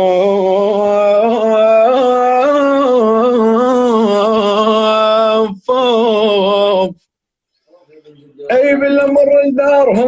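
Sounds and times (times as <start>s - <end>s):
man singing unaccompanied: 0.0s - 7.1s, 8.5s - 10.0s.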